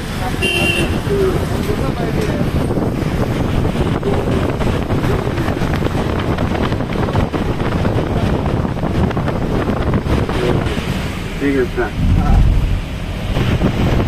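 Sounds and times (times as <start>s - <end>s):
car road noise in tunnel: 0.0s - 14.0s
wind buffeting microphone: 0.0s - 14.0s.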